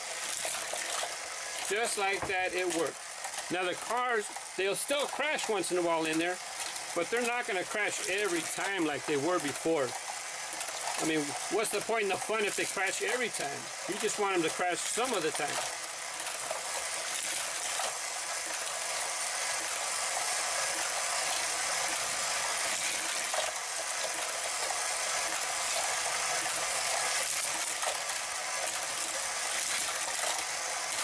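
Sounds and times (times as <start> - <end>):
toy cars clicking along track: 0.0 - 31.0
plastic gears clattering: 0.2 - 31.0.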